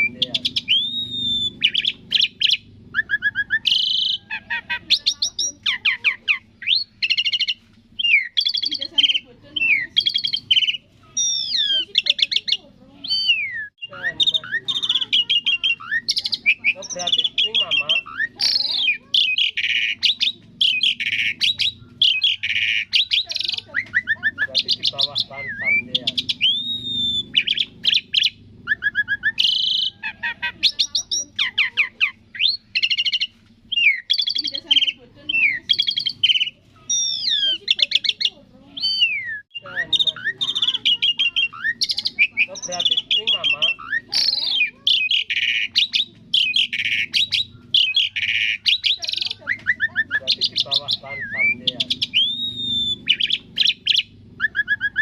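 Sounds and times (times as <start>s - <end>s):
faint low hum: 0.0s - 55.0s
starling singing: 0.0s - 55.0s.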